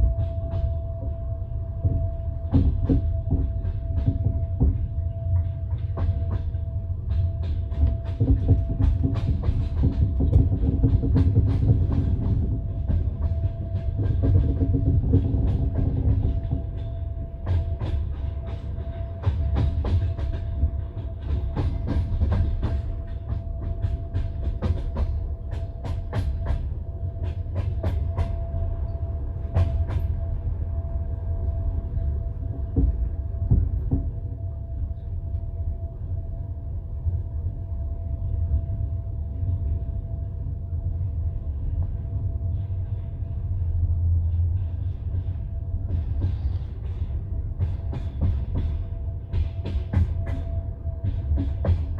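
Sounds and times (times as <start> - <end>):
train rumble: 0.0 - 51.9.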